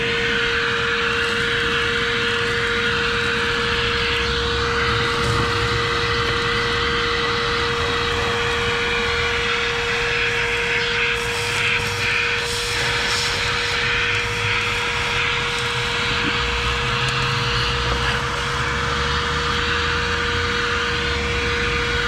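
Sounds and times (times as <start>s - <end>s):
vacuum cleaner motor whine: 0.0s - 22.0s.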